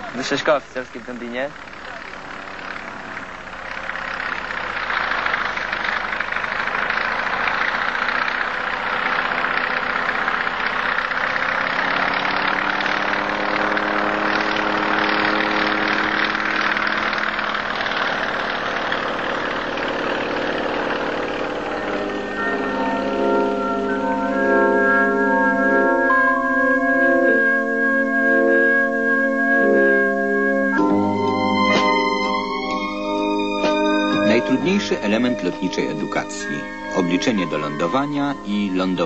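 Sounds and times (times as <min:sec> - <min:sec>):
engine running: 0:00.0 - 0:39.0.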